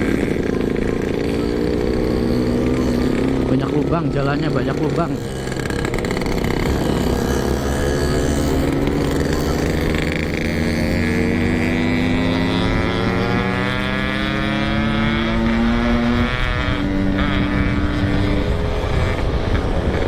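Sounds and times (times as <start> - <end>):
two-stroke motorcycle engine running: 0.0 - 20.0.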